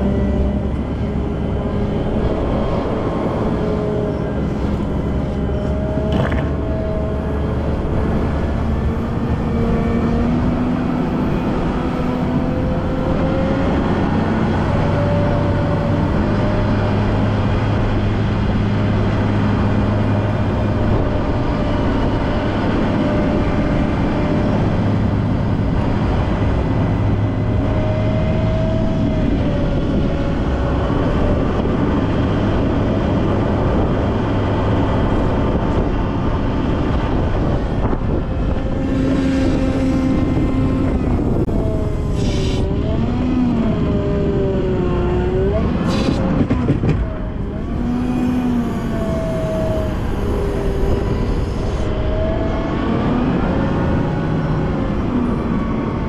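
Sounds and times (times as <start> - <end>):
wheel loader diesel engine: 0.0 - 56.0.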